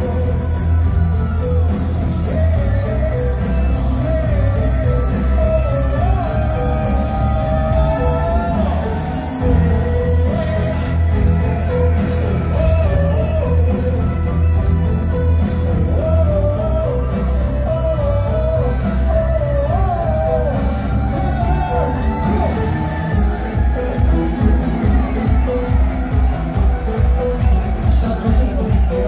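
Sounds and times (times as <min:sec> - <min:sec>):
heavy bass and drums: 0:00.0 - 0:29.0
live band playing loud music: 0:00.0 - 0:29.0
wavering lead melody: 0:00.0 - 0:29.0.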